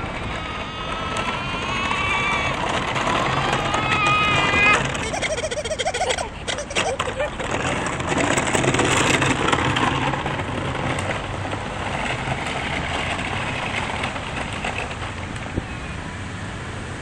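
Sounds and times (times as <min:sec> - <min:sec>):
low engine hum: 0:00.0 - 0:17.0
road traffic noise: 0:00.0 - 0:17.0.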